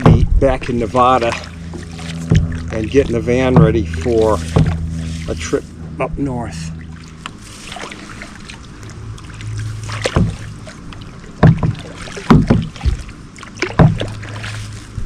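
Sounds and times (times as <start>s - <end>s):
paddle strokes splashing water: 0.0s - 15.0s.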